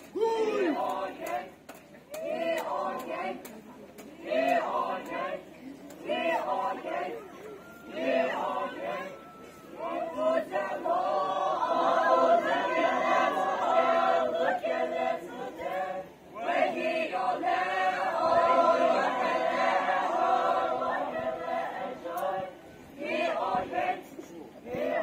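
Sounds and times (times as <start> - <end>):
group singing without instruments: 0.4 - 25.0.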